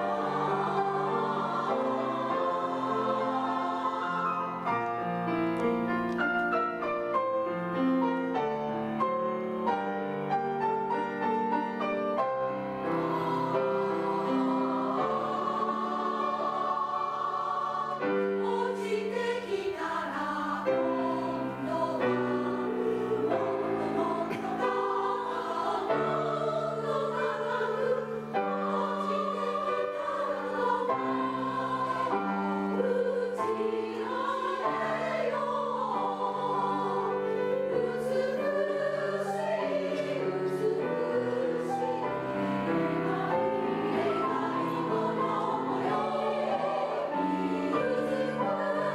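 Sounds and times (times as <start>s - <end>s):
grand piano: 0.0s - 48.9s
women's choir singing: 0.0s - 48.9s.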